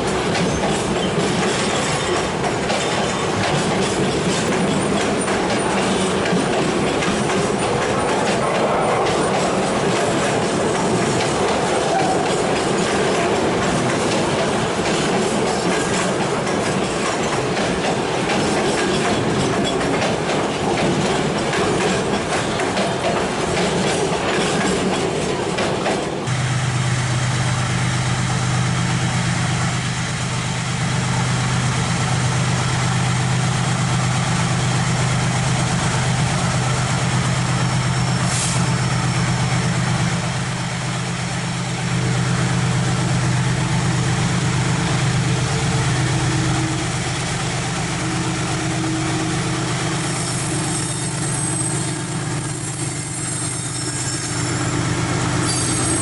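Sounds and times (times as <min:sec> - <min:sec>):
diesel locomotive engine droning: 0:00.0 - 0:56.0
freight train cars rattling: 0:00.0 - 0:56.0.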